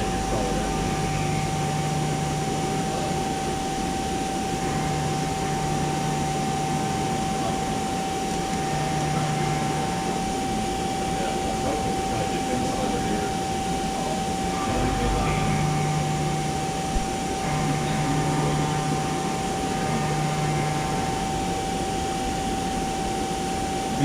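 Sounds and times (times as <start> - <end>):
low machine hum: 0.0 - 24.0
machine constant whine: 0.0 - 24.0.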